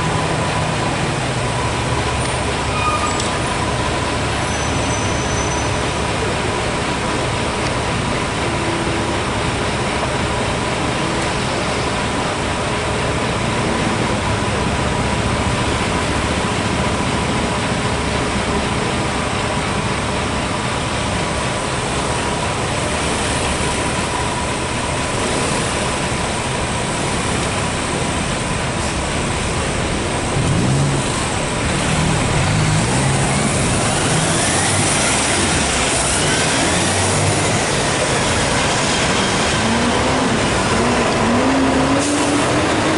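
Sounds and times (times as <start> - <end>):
street traffic: 0.0 - 42.9
truck diesel engine: 0.0 - 42.9.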